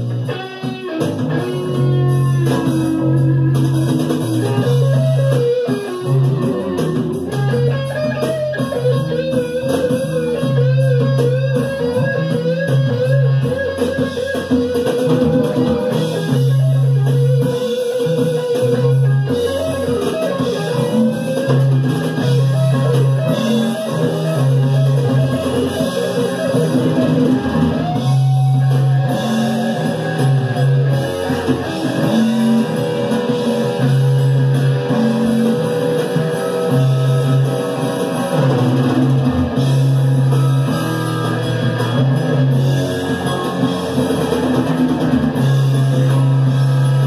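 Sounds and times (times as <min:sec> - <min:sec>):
bass guitar line: 0:00.0 - 0:47.0
drum kit: 0:00.0 - 0:47.0
electric guitar: 0:00.0 - 0:47.0.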